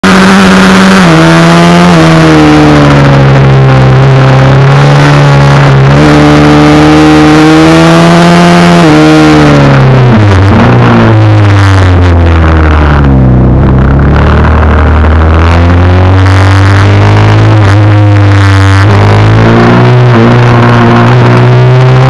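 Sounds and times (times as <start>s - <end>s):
motorcycle engine running loud: 0.0s - 22.0s.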